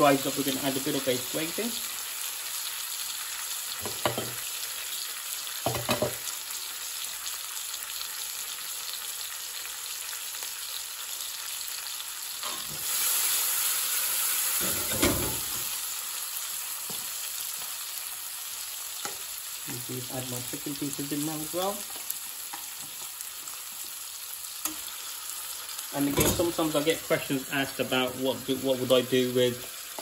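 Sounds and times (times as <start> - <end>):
spice paste sizzling in a pan: 0.0 - 30.0.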